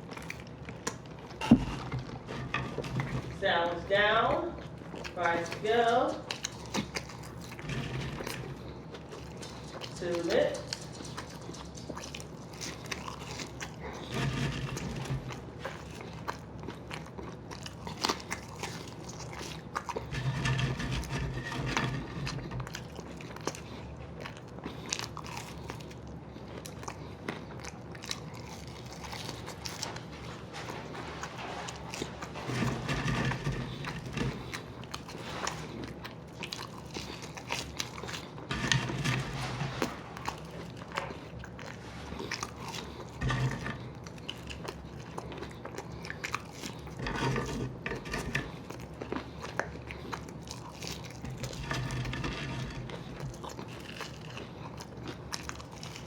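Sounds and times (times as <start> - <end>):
people chewing and crunching food: 0.0 - 56.0.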